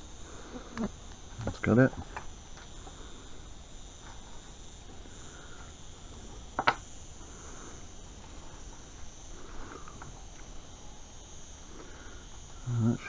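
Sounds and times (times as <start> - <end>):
steady high-pitched whine: 0.0 - 13.0.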